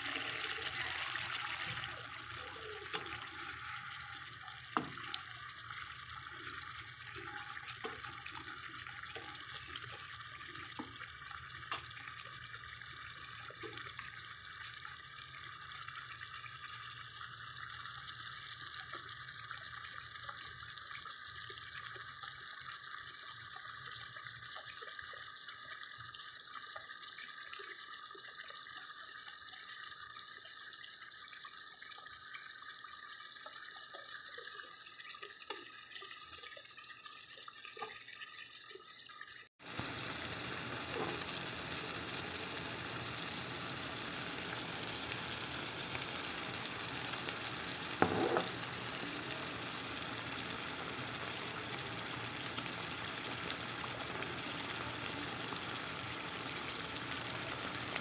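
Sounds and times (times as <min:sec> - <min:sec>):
stew simmering with bubbling pops: 0:00.0 - 0:58.0.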